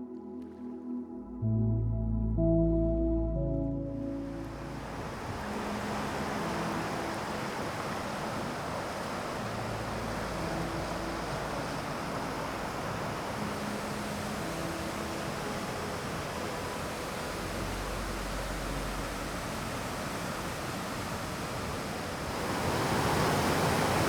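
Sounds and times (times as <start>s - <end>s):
stream water rushing: 4.2s - 24.0s.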